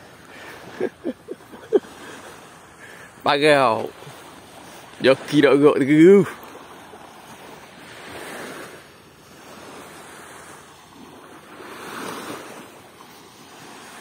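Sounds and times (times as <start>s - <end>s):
waves washing in: 0.0s - 14.0s.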